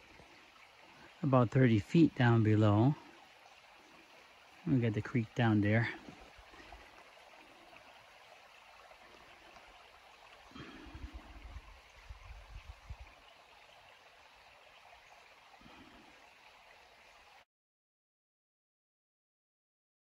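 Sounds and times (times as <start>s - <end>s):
creek flowing: 0.0s - 17.4s.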